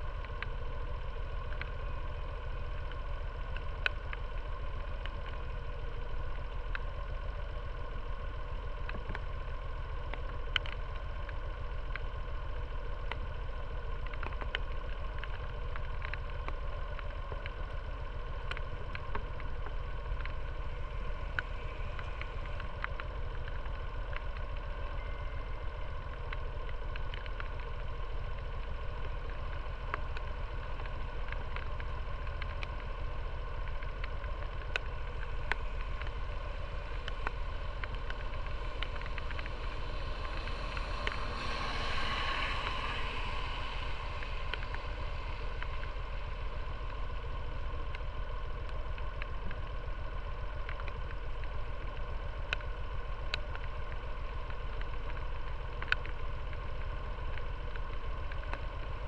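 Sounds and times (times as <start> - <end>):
light ticks: 0.0 - 59.0
motor scooter engine idling: 0.0 - 59.0.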